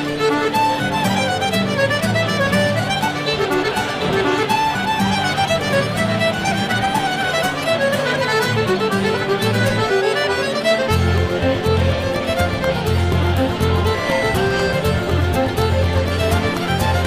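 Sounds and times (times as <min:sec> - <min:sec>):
fast fiddle tune: 0:00.0 - 0:17.0
lower accompaniment: 0:00.0 - 0:17.0.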